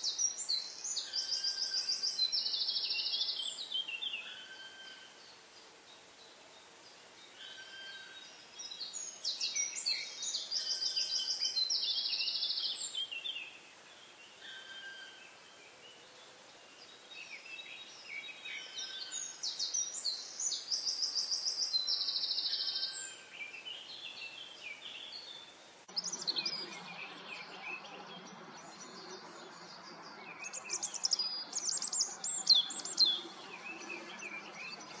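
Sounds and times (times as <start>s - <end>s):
songbird singing with trill: 0.0s - 35.0s.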